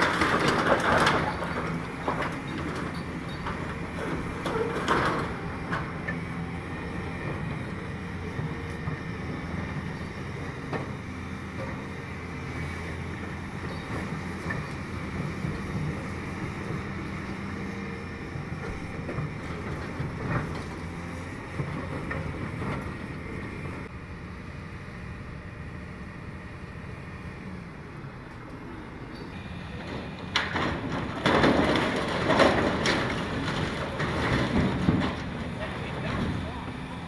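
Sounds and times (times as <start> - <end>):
excavator diesel drone: 0.0 - 37.0.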